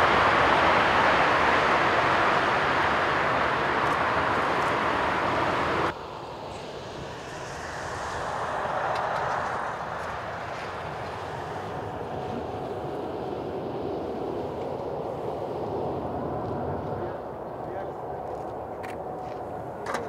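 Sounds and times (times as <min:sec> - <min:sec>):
airliner jet rumble on approach: 0:00.0 - 0:20.0
jet engine landing rollout: 0:00.0 - 0:20.0.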